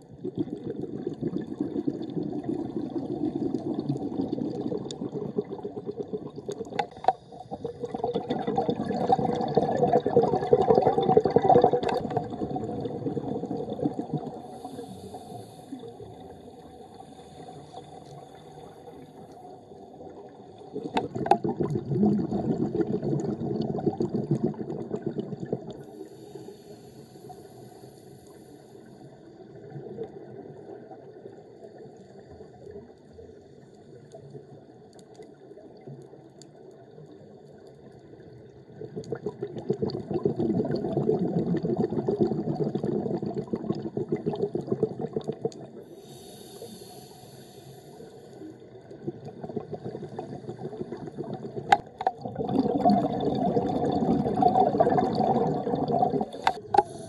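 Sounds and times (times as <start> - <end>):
underwater bubbling and rushing: 0.0 - 57.0.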